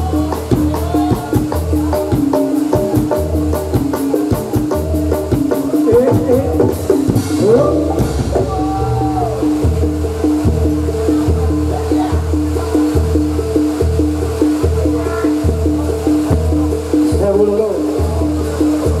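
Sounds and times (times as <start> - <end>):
gamelan music: 0.0 - 19.0
hand drums: 0.0 - 19.0
struck pitched percussion: 0.0 - 19.0.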